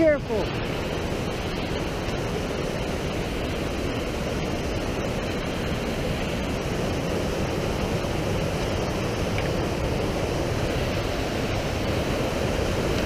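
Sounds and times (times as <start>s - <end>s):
water rushing over boulders: 0.0s - 13.0s.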